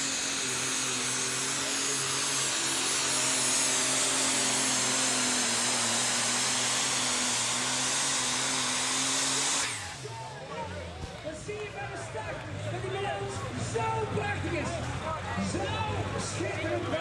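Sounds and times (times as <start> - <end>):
tractor engine with high whine: 0.0 - 17.0.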